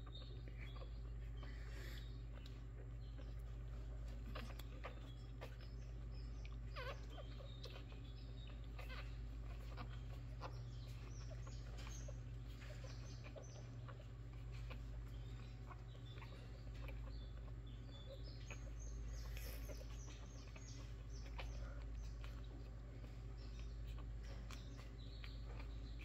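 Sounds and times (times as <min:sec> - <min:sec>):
low steady hum: 0:00.0 - 0:26.0
puppies squeaking and whimpering: 0:00.0 - 0:26.0.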